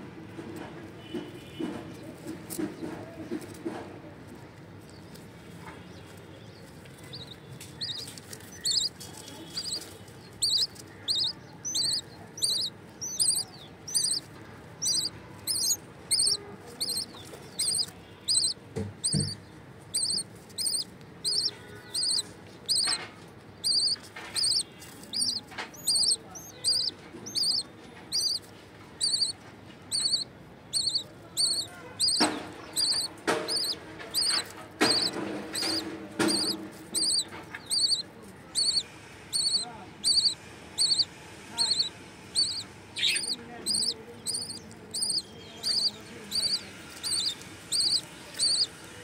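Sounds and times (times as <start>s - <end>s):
nestlings begging cheeps: 7.1s - 23.0s, 23.6s - 49.0s.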